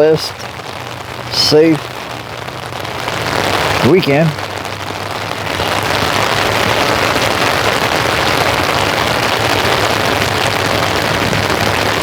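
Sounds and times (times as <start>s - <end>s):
rain pattering on an umbrella: 0.0s - 12.0s.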